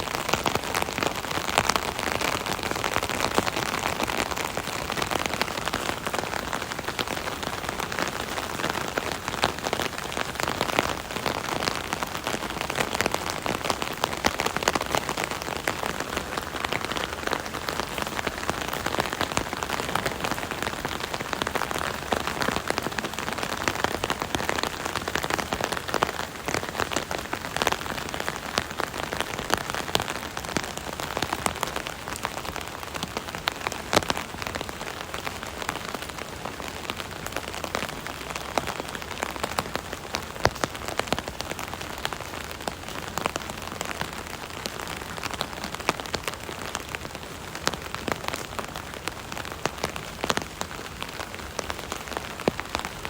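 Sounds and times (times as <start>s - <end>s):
rain drumming on an umbrella: 0.0s - 53.0s.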